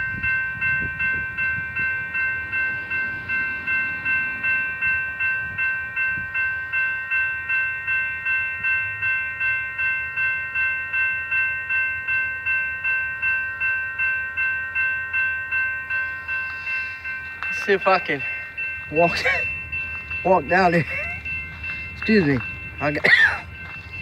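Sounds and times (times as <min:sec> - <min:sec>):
crossing bell ringing: 0:00.0 - 0:24.0
train rumbling: 0:00.0 - 0:24.0.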